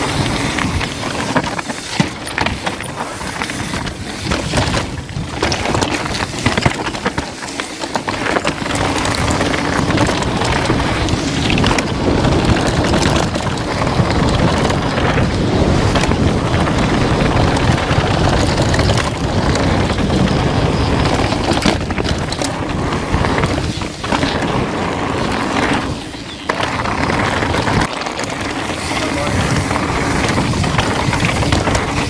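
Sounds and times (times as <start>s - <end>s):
bike tyres and rattling: 0.0s - 32.0s
wind buffeting microphone: 0.0s - 32.0s.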